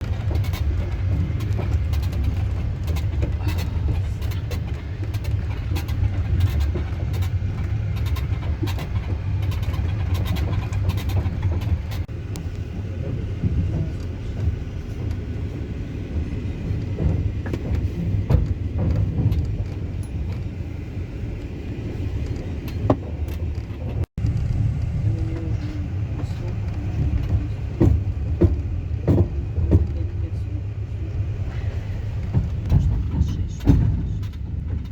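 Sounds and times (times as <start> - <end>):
train interior rumble: 0.0 - 34.9
train wheels clattering on rails: 0.0 - 34.9.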